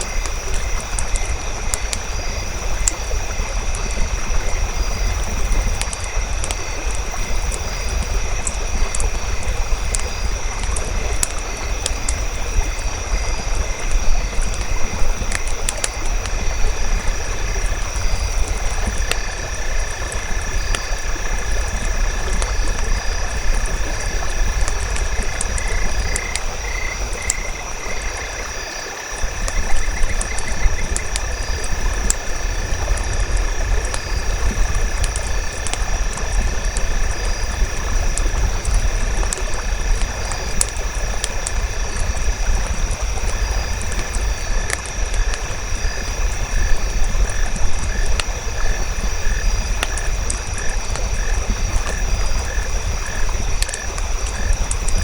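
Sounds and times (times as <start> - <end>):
campfire crackling and popping: 0.0 - 55.0
frogs and insects calling: 0.0 - 55.0.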